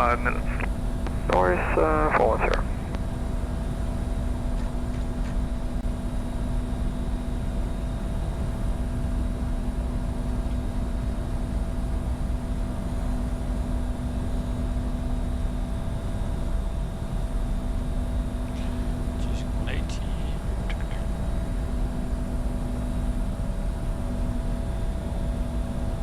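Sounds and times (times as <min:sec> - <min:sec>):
low hum: 0:00.0 - 0:13.4, 0:17.0 - 0:26.0
airflow and jet engine noise: 0:00.0 - 0:26.0.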